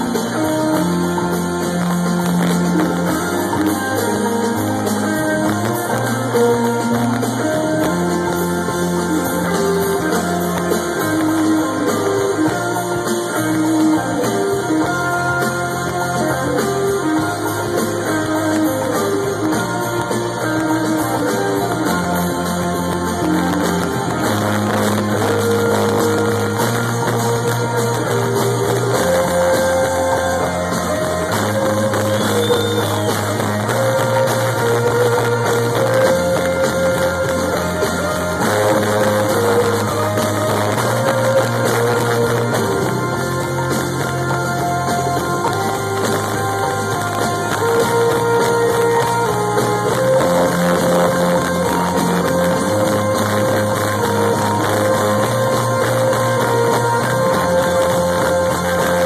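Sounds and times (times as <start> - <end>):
bass line: 0.0 - 59.0
drums: 0.0 - 59.0
guitar: 0.0 - 59.0
keyboard melody: 0.0 - 59.0.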